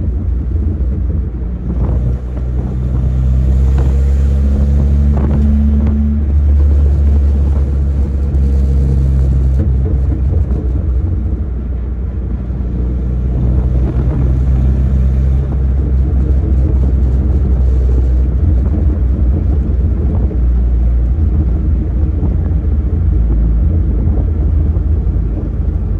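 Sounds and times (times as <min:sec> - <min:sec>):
low road noise: 0:00.0 - 0:25.9
pickup truck engine running: 0:00.0 - 0:25.9.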